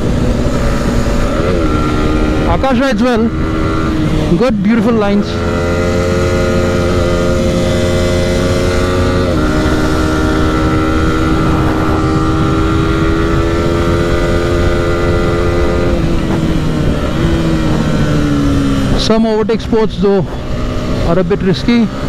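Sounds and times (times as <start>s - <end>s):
low wind rumble: 0.0s - 22.0s
motorcycle engine running at speed: 0.0s - 22.0s.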